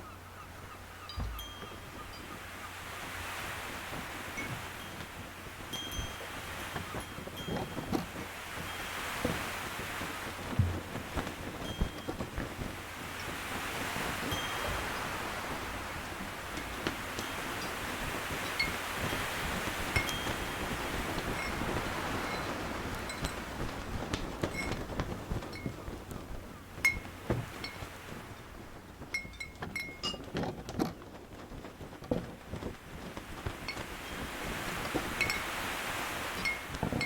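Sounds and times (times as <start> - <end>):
water: 0.0 - 37.0
wind and waves: 0.0 - 37.0.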